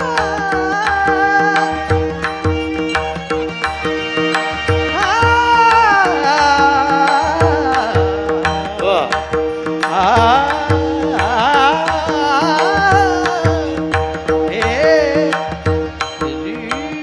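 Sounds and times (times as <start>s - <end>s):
person singing wordless melody: 0.0s - 3.1s, 4.2s - 17.0s.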